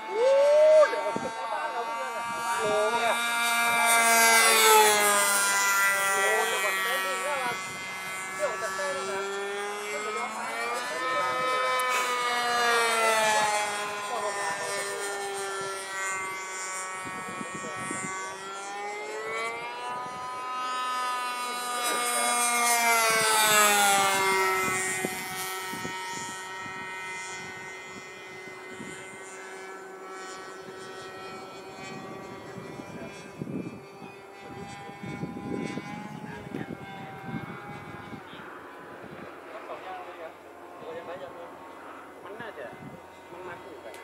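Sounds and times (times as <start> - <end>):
model airplane engine buzzing: 0.0 - 44.0.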